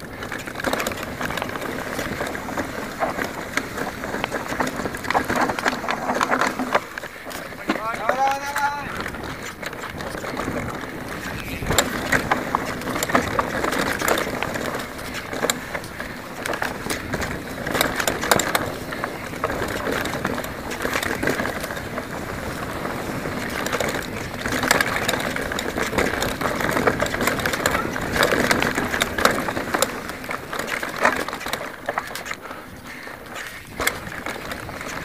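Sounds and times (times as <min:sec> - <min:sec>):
bike rattling over bumps: 0:00.0 - 0:35.0
bike tyres on dirt: 0:00.0 - 0:35.0.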